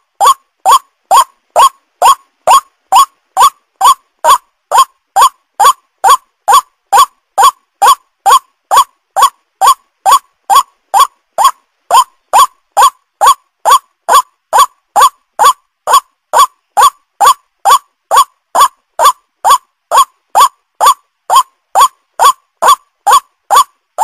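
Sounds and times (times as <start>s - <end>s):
bird calling repeated notes: 0.0s - 23.8s.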